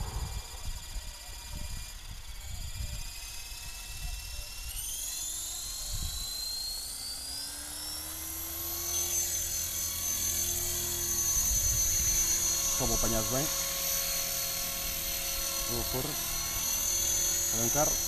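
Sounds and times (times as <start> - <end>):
helicopter motor and gear whine: 0.0 - 18.0.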